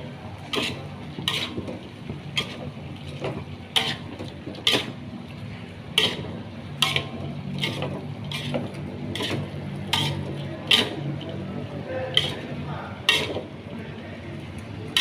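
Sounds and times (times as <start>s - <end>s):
spatula scraping frying pan: 0.4s - 13.6s.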